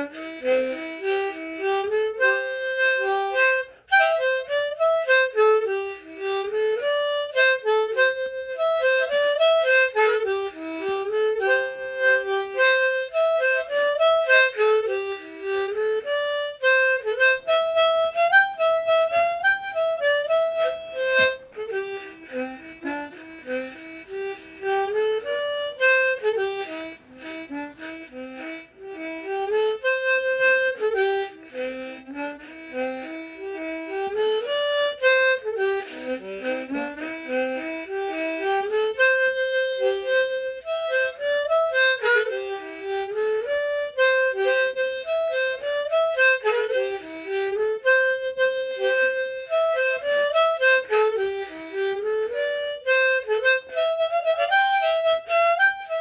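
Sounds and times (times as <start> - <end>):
harmonica polka melody: 0.0 - 56.0.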